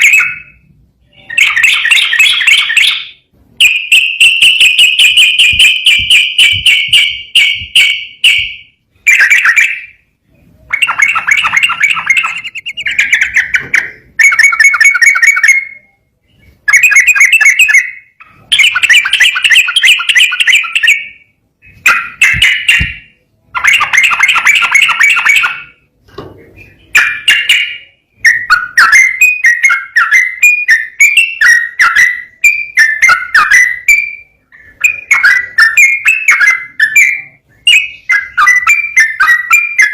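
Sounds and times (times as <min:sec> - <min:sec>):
bulbul singing rapid chattering: 0:00.0 - 0:16.0, 0:16.6 - 0:25.9, 0:26.6 - 0:39.9.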